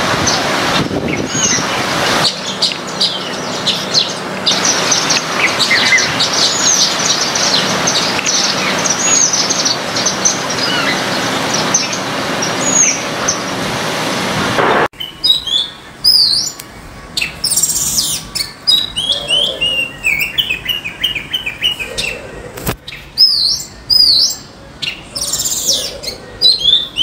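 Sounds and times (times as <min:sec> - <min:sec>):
small birds chirping: 0:00.0 - 0:13.7, 0:15.0 - 0:27.0.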